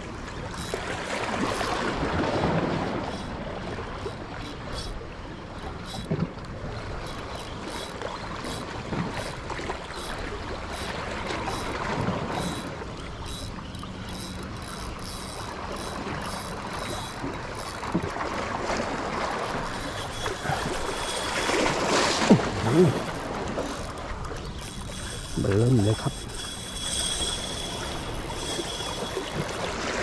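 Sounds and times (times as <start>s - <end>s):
small waves washing on shore: 0.0s - 30.0s
wind: 0.0s - 30.0s
faint ticks: 0.4s - 18.1s, 19.4s - 29.8s.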